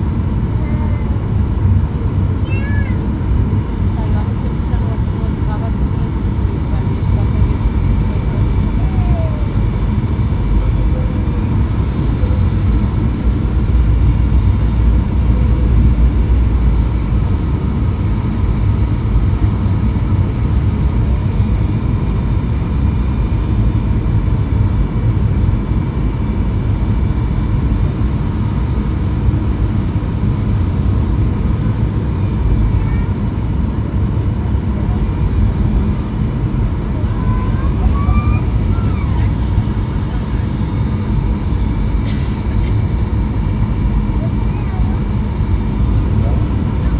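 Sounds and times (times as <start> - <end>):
airliner cabin rumble: 0.0 - 46.9
faint steady whine: 0.0 - 46.9.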